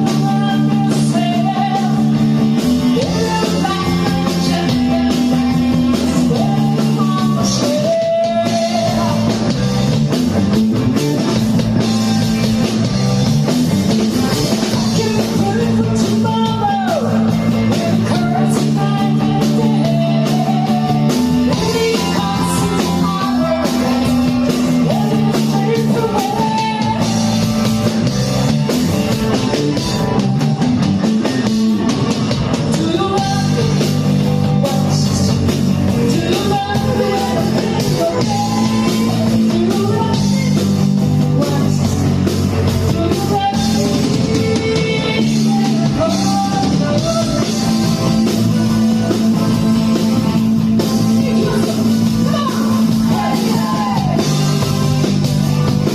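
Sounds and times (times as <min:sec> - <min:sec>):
person singing: 0:00.0 - 0:09.9, 0:14.2 - 0:28.0, 0:31.2 - 0:55.9
drum kit: 0:00.0 - 0:55.9
electric guitar: 0:00.0 - 0:55.9.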